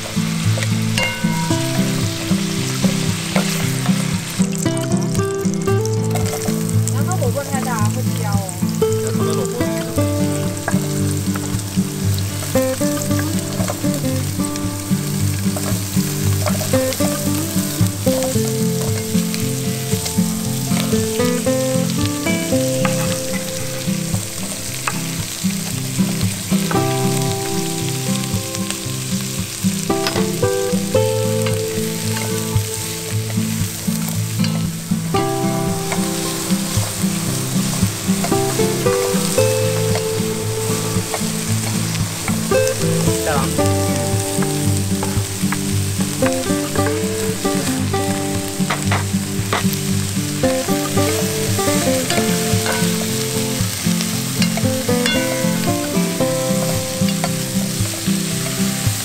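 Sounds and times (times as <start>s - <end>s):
background music: 0.0s - 59.0s
vegetables sizzling in a pot: 0.0s - 59.0s.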